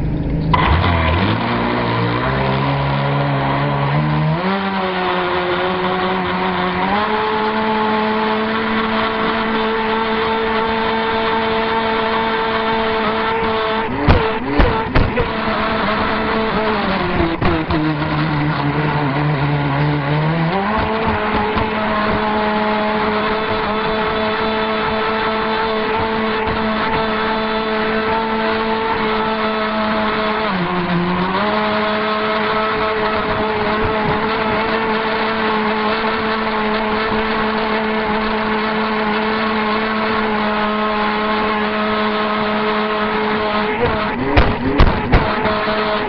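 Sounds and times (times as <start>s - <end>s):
boat motors high-pitched drone: 0.0s - 46.0s.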